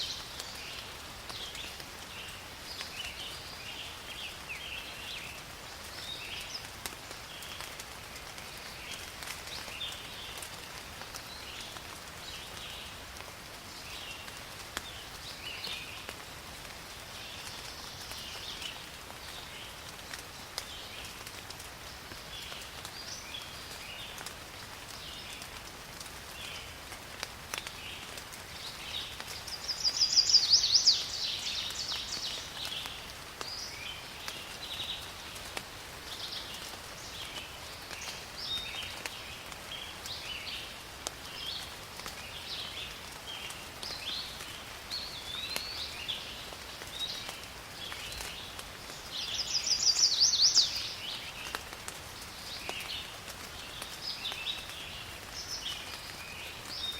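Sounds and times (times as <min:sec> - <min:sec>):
rain pattering in a forest: 0:00.0 - 0:56.9.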